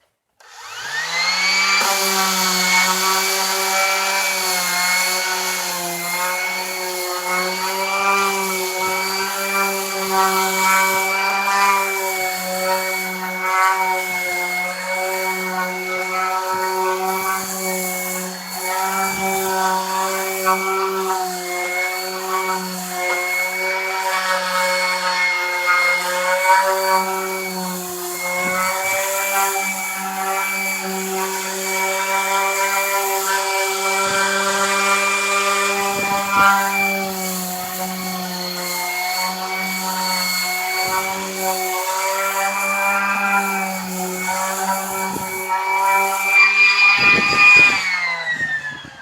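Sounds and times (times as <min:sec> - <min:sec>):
power sander running: 0:00.4 - 0:49.0
hiss of sanding abrasion: 0:00.6 - 0:49.0.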